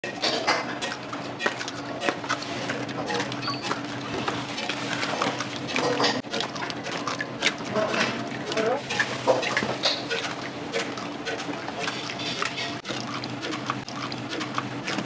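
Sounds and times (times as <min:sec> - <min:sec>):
utensils and dishes clattering: 0:00.0 - 0:15.0.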